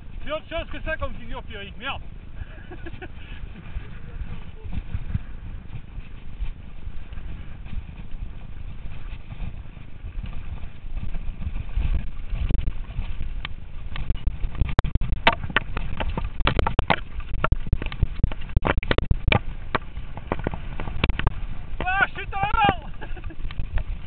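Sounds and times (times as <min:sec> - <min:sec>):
wind rumbling on microphone: 0:00.0 - 0:24.0
bike rattling over bumps: 0:02.6 - 0:22.0.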